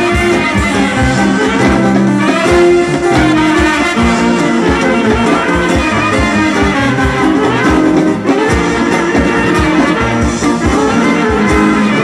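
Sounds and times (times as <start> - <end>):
bass drum beat: 0.0 - 12.0
folk dance brass band music: 0.0 - 12.0.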